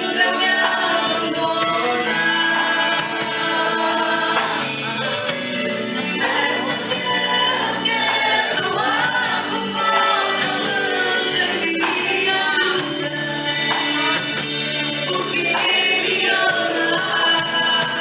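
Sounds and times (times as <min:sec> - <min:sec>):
band playing: 0:00.0 - 0:18.0
choir singing worship song: 0:00.0 - 0:18.0.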